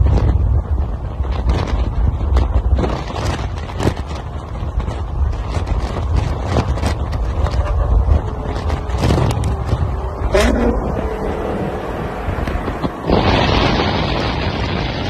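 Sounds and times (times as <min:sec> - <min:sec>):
car road rumble: 0:00.0 - 0:15.0
gusty thumps: 0:00.0 - 0:15.0
wind buffeting microphone: 0:00.0 - 0:15.0.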